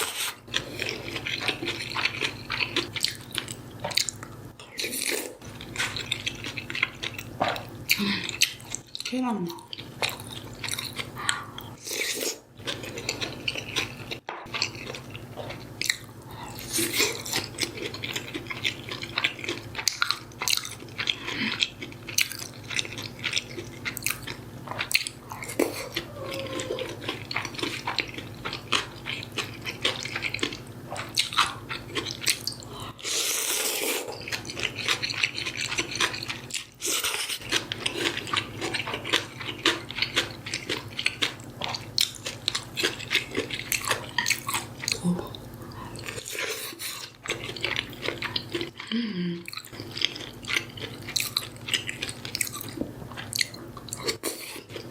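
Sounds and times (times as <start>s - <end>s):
chewing and biting food: 0.0s - 54.9s.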